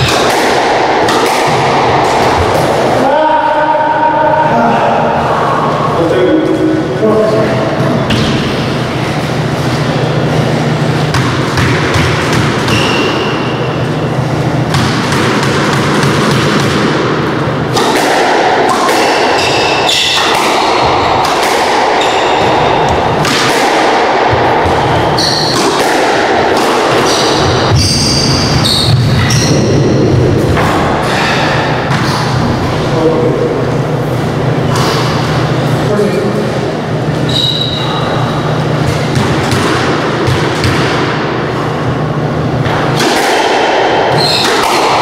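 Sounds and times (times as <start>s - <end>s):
squash ball hitting racquets and walls: 0.0s - 4.0s, 7.6s - 45.0s.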